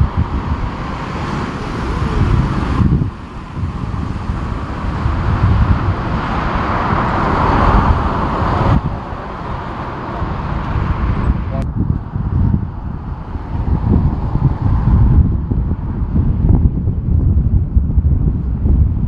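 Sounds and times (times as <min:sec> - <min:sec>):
jet engines roaring: 0:00.0 - 0:19.0
wind buffeting microphone: 0:00.0 - 0:19.0.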